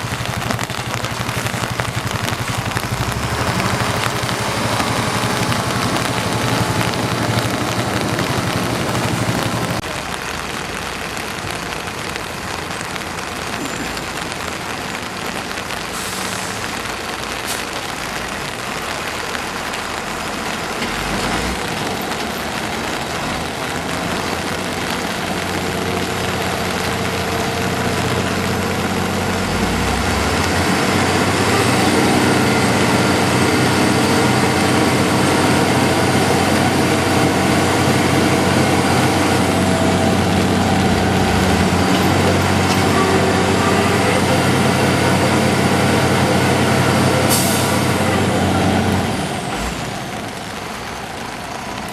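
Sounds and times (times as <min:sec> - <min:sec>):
heavy truck engine running: 0:00.0 - 0:11.2, 0:11.8 - 0:51.9.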